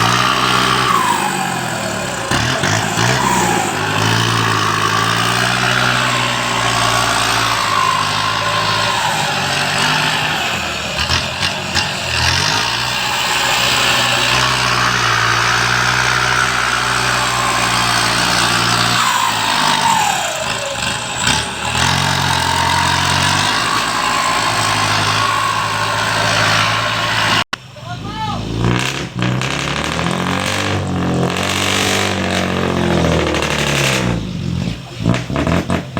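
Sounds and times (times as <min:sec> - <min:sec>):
heavy machinery engine running: 0:00.0 - 0:35.9.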